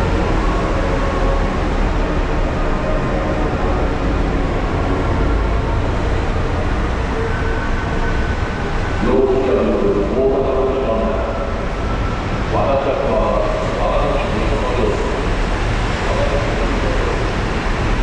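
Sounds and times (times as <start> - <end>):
subway platform rumble and hiss: 0.0 - 18.0.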